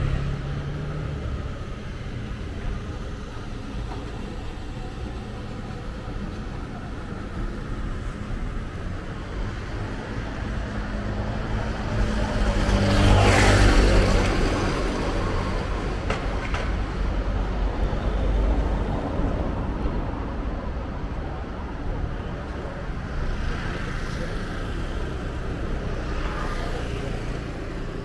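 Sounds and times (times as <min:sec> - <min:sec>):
street traffic hum: 0:00.0 - 0:28.0.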